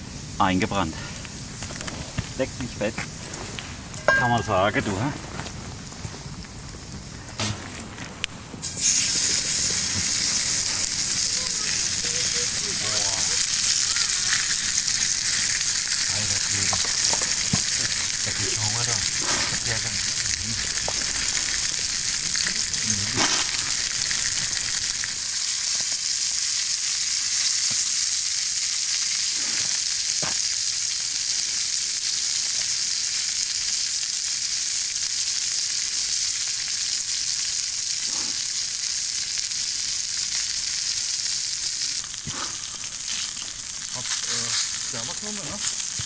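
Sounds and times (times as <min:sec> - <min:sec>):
food sizzling in a pan: 0:00.0 - 0:07.8, 0:08.6 - 0:46.0.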